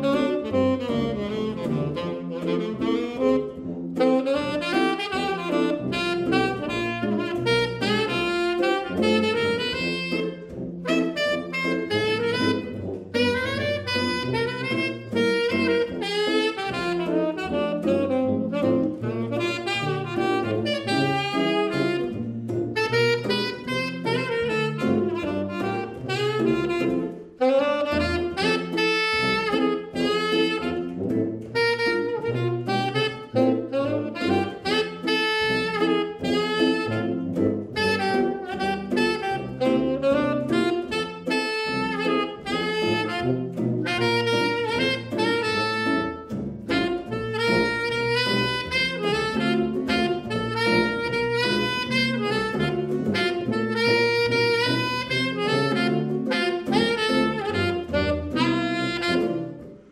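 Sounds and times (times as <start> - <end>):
saxophone melody: 0.0 - 59.9
tuba bass line: 0.0 - 59.9.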